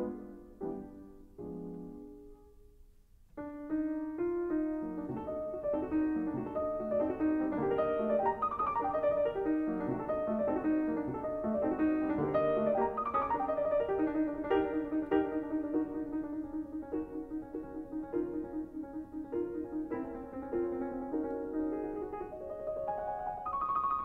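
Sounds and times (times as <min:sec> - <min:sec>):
piano music: 0:00.0 - 0:02.8, 0:03.4 - 0:24.0.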